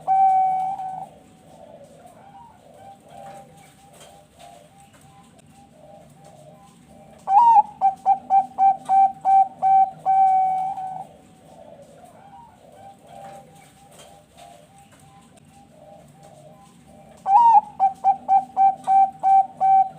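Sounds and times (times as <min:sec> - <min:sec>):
dove singing: 0:00.0 - 0:19.9
faint doves cooing: 0:00.0 - 0:19.9.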